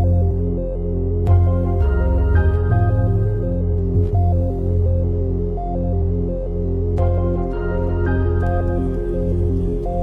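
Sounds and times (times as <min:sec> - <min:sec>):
low bass drone: 0:00.0 - 0:10.0.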